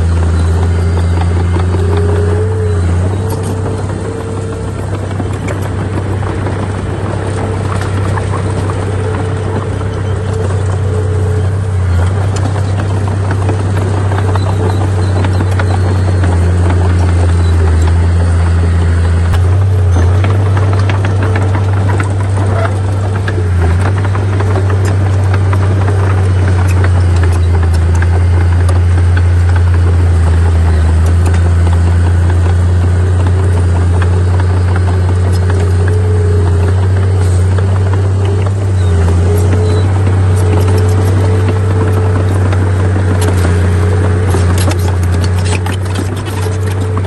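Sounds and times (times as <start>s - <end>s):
bulldozer diesel engine droning: 0.0s - 47.0s.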